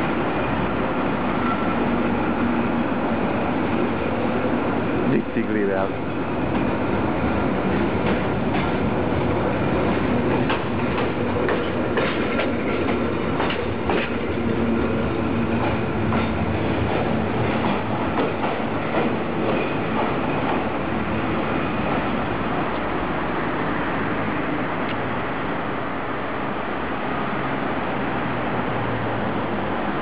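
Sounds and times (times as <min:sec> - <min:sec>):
wheels clacking over rail joints: 0:00.0 - 0:24.2
tram wheels rumbling: 0:00.0 - 0:30.0.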